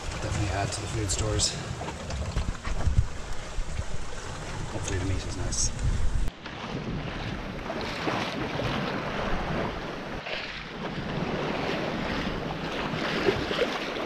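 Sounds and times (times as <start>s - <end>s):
water splashing along boat hull: 0.0s - 14.0s
wind buffeting microphone: 0.0s - 14.0s.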